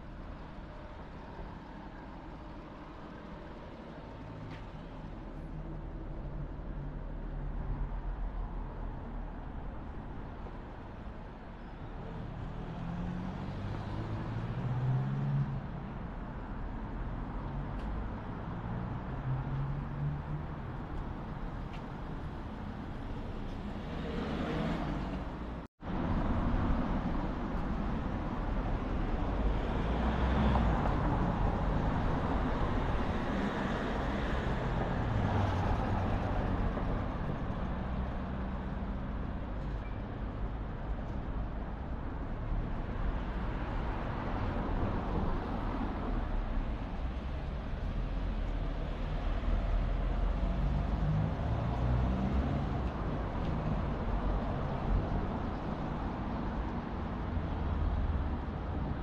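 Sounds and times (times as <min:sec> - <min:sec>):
cars passing on street: 0:00.0 - 0:59.0
road noise: 0:00.0 - 0:59.0.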